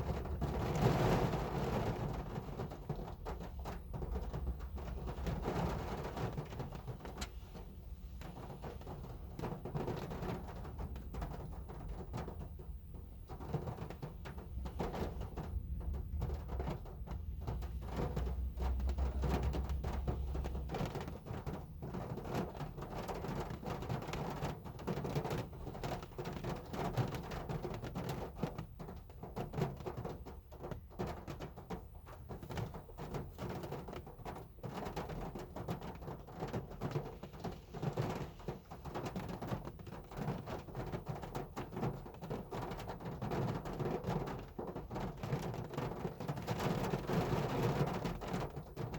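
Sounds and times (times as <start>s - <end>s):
heavy rain on a car: 0.0s - 48.9s.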